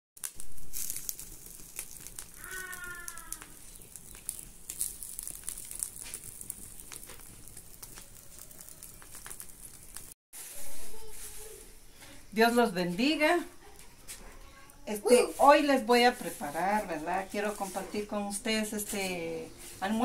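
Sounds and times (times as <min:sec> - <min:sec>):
wood fire crackling: 0:00.2 - 0:20.0.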